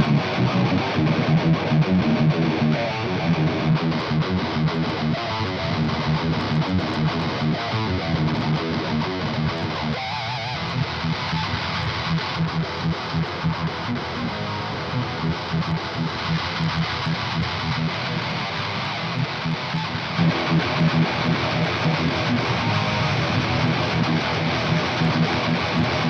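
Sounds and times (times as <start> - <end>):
distorted electric guitar riff: 0.0 - 26.0.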